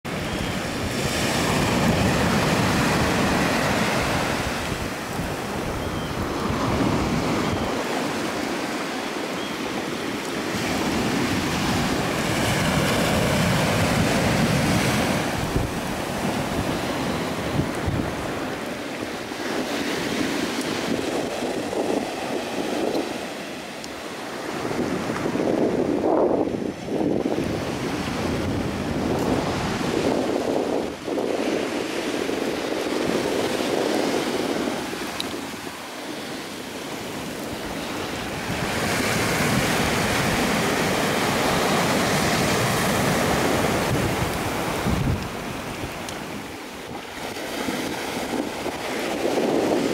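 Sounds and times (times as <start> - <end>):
wind rumbling on microphone: 0.0 - 49.9
ocean surf breaking: 0.1 - 49.9.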